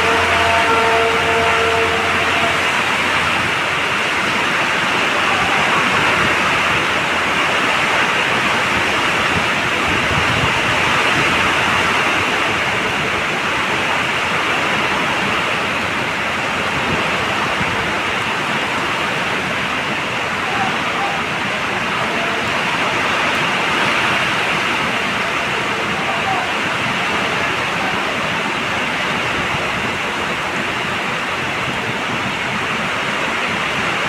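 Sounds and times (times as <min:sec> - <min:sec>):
heavy rain downpour: 0:00.0 - 0:34.0.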